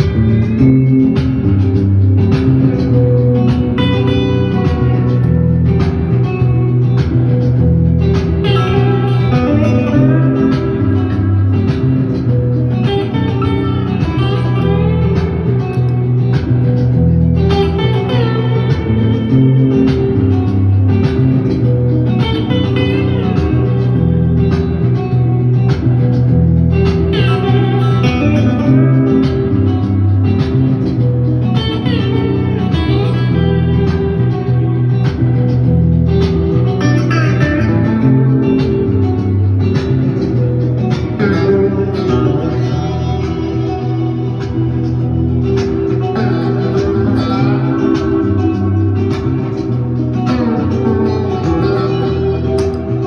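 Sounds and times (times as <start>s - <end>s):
low bass line on guitar: 0.0s - 53.0s
plucked guitar melody: 0.0s - 53.0s.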